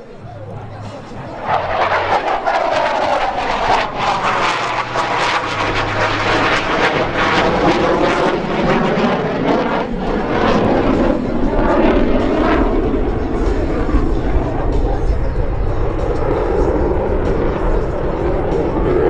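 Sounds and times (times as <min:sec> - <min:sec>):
jet fighter flying past: 0:00.0 - 0:19.0.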